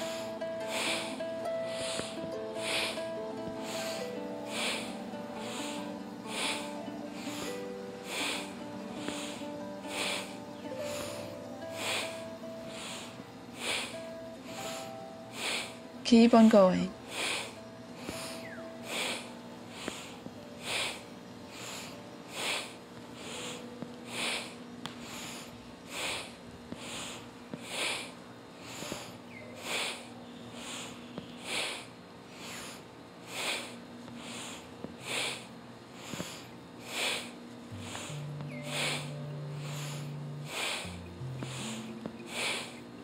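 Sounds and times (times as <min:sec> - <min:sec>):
person breathing rhythmically: 0:00.0 - 0:43.0.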